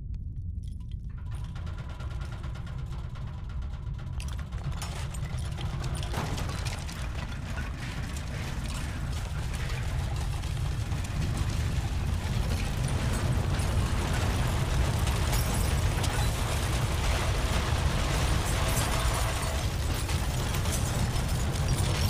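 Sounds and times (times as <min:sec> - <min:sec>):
low earthquake rumble: 0:00.0 - 0:22.0
rattling and clicking of shaken cars: 0:01.1 - 0:22.0.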